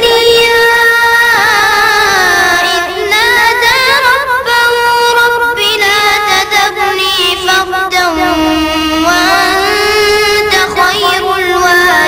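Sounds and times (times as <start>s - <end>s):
child chanting melodic recitation: 0.0s - 12.0s.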